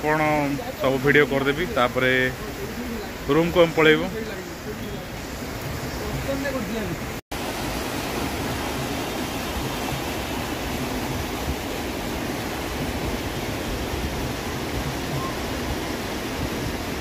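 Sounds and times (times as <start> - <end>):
fast-flowing river water: 0.0 - 17.0.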